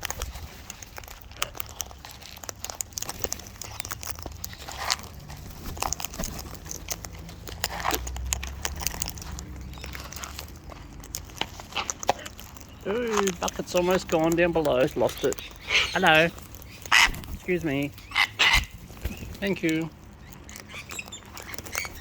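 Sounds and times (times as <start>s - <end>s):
beaks pecking and cracking seed: 0.0s - 22.0s.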